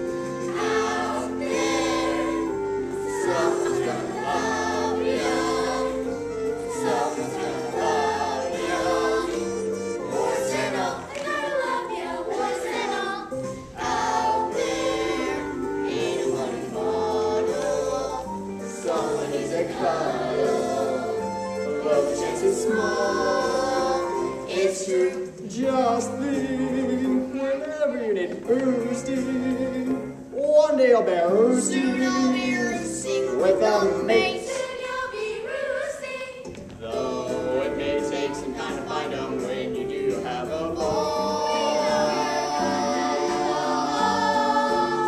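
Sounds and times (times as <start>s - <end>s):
young voices singing together: 0.0s - 27.7s, 31.4s - 45.0s
instrumental accompaniment: 0.0s - 45.0s.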